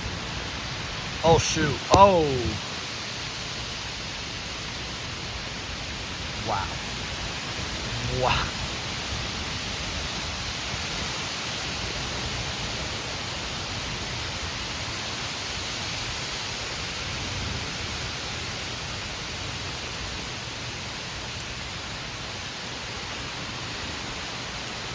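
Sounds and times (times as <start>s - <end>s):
heavy rain: 0.0s - 24.9s
wind: 0.0s - 24.9s.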